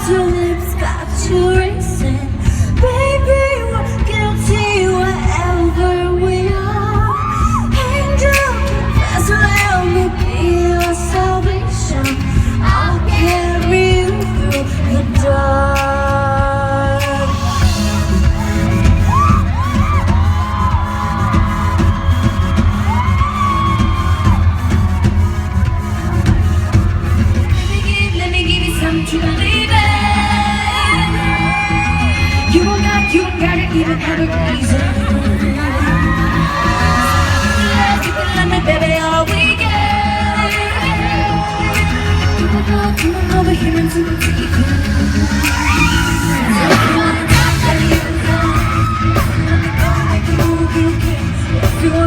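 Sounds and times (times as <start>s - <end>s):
woman singing: 0.0s - 20.8s, 27.4s - 52.0s
crowd whooping and screaming: 0.0s - 52.0s
heavy bass beat: 0.0s - 52.0s
live pop music: 0.0s - 52.0s.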